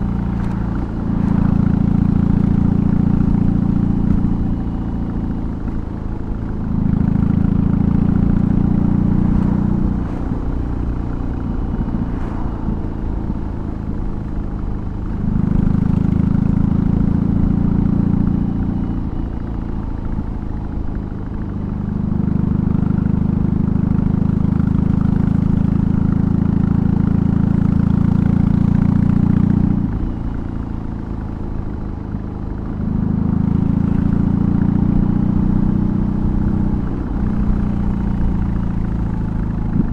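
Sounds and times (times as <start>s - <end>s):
motorcycle engine revving: 0.0s - 30.7s, 32.8s - 39.9s.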